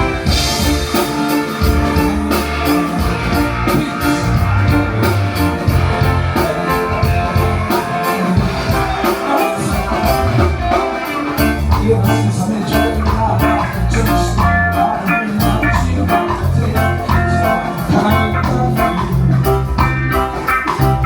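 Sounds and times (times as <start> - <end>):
bass notes: 0.0 - 21.0
drum kit beat: 0.0 - 21.0
guitar: 0.0 - 21.0.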